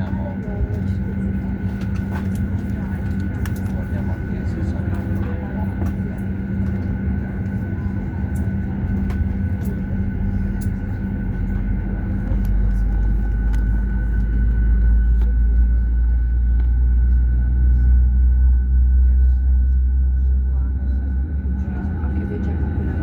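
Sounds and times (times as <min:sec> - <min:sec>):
jet engine whine: 0:00.0 - 0:23.0
low cabin hum and rumble: 0:00.0 - 0:23.0.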